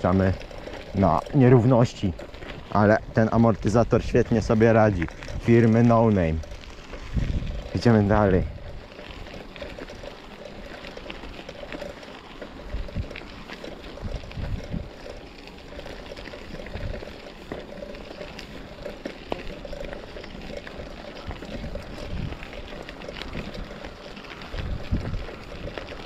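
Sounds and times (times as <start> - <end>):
bicycle tyres rolling on rough trail: 0.0 - 26.0
bike rattles and knocks: 0.0 - 26.0
wind buffeting microphone: 0.0 - 26.0.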